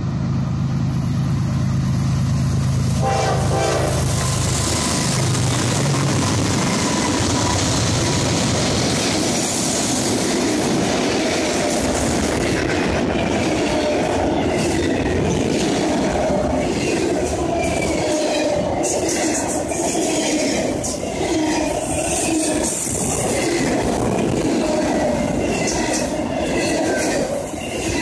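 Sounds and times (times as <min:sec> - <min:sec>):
steel wheels on rail: 0:00.0 - 0:28.0.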